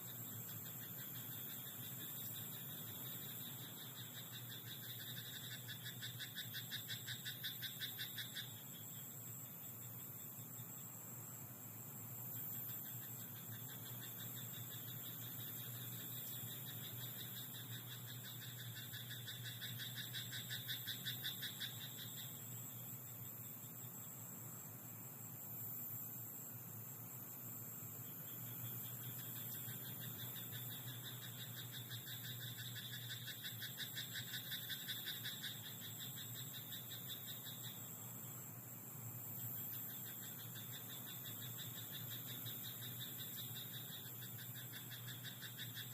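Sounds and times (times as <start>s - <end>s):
frogs croaking in chorus: 0.0s - 11.4s, 12.2s - 24.6s, 27.1s - 45.9s
steady high hiss: 0.0s - 45.9s.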